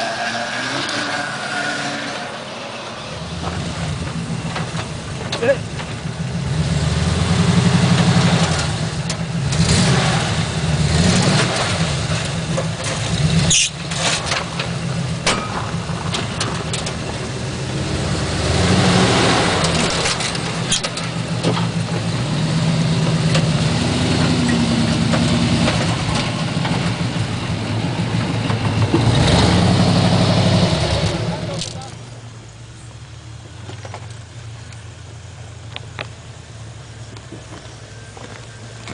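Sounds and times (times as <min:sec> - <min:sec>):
off-road vehicle engine revving: 0:00.0 - 0:32.6.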